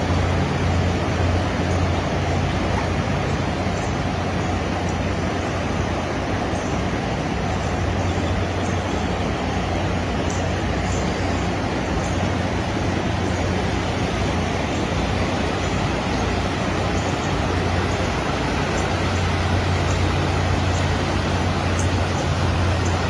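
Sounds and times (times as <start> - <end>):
floodwater rushing: 0.0 - 23.0
low steady hum: 0.0 - 23.0.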